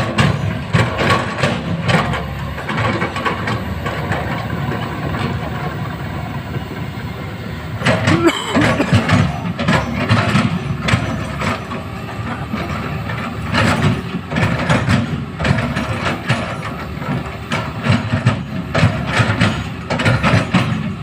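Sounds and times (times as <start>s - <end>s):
metallic clanks and rattles: 0.0s - 6.1s, 7.7s - 21.0s
excavator diesel engine running: 0.0s - 21.0s.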